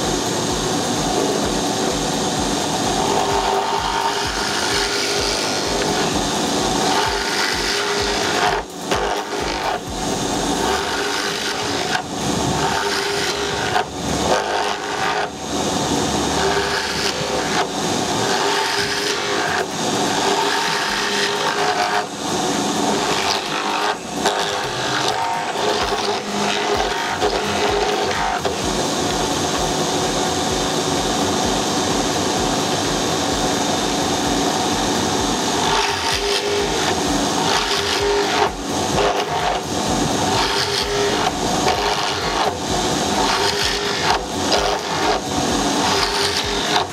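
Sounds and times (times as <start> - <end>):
electric motor hum: 0.0 - 46.9
drill bit rasping into wood: 1.1 - 29.6, 34.5 - 46.9.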